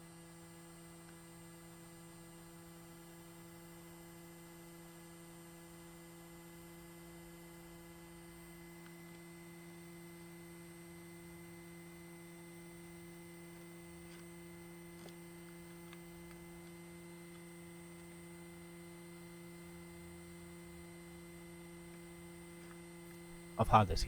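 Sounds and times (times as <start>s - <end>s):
heat gun fan hum and whine: 0.0s - 24.0s.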